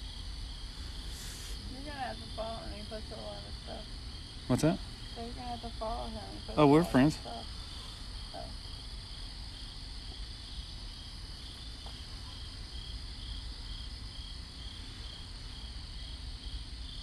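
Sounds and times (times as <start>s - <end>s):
insects trilling: 0.0s - 17.0s
low pulsing insect chirp: 0.0s - 17.0s.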